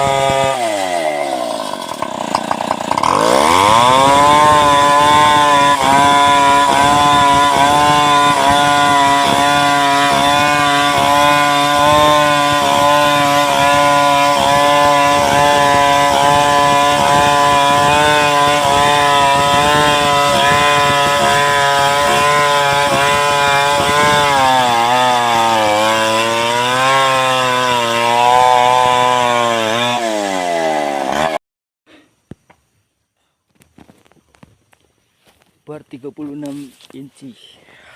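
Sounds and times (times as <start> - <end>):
chainsaw ripping log: 0.0 - 31.4.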